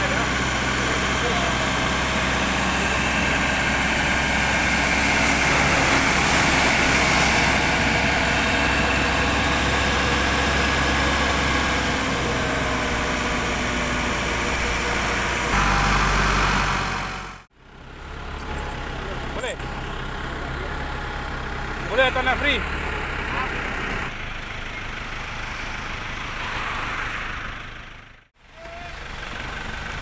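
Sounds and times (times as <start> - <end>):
tow truck engine running: 0.0 - 30.0.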